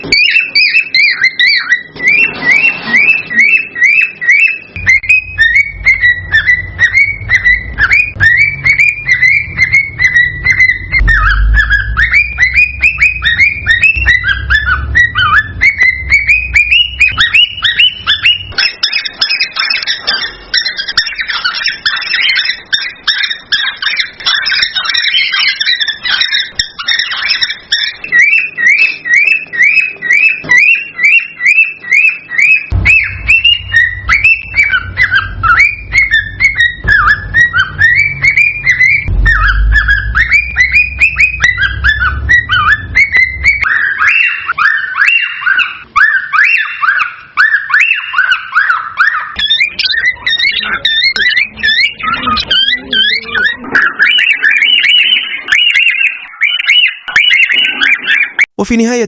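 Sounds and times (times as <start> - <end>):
cockatiels chirping and whistling: 0.0 - 58.5.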